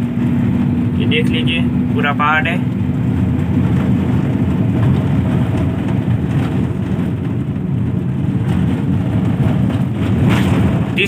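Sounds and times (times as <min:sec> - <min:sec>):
engine drone: 0:00.0 - 0:11.0
road rumble: 0:00.0 - 0:11.0.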